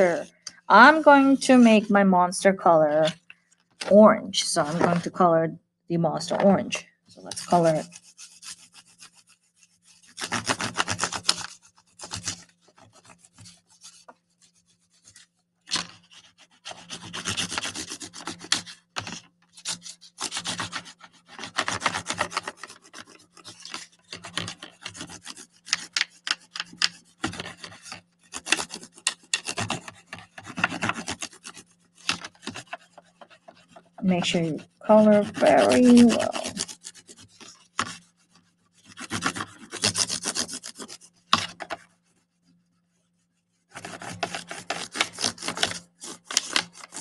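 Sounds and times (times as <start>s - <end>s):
crayon scribbling on paper plate: 0.0s - 3.2s, 3.9s - 5.4s, 6.2s - 47.0s.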